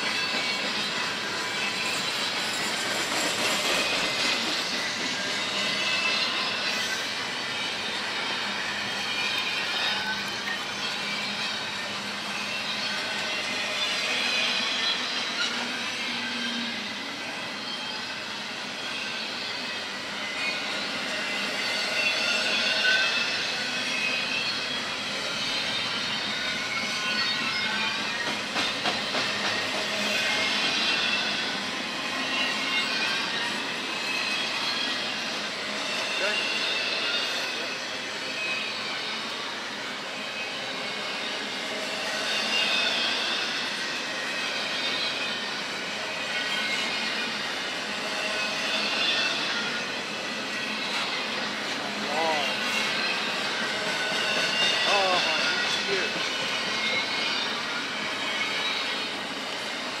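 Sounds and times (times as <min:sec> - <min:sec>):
high wavering wheel squeal: 0:00.0 - 1:00.0
train wheels rolling on rails: 0:00.0 - 1:00.0.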